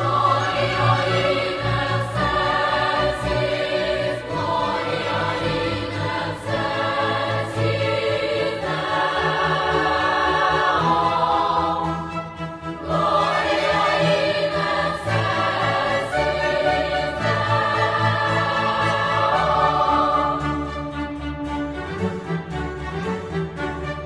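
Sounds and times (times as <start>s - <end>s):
choir singing held chords: 0.0s - 21.4s.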